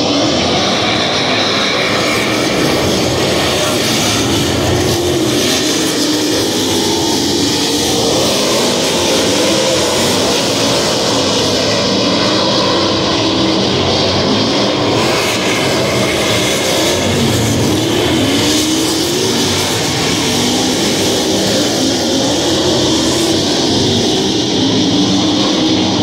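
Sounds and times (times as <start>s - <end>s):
race car engines roaring: 0.0s - 26.0s.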